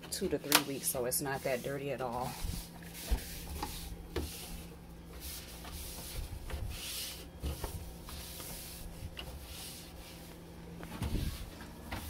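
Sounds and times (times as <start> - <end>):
scrubbing and wiping strokes: 0.4 - 12.0.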